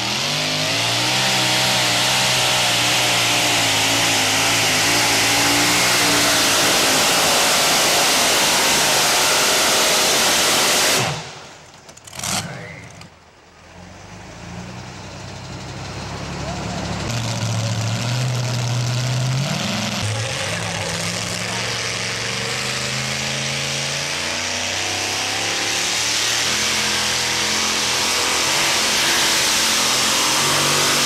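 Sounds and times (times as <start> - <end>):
truck engine screaming at full throttle: 0.0 - 31.0.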